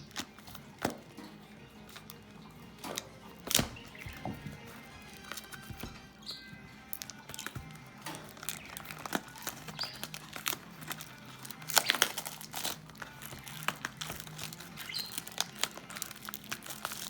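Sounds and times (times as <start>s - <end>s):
plastic wrapping crinkling and tearing: 0.0s - 17.0s.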